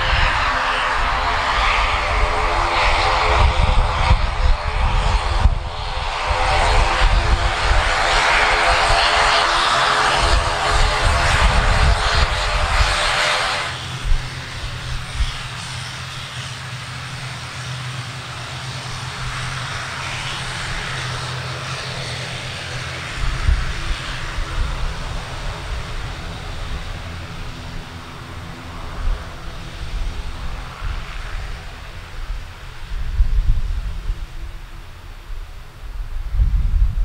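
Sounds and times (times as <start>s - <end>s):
propeller engine drone: 0.0s - 37.0s.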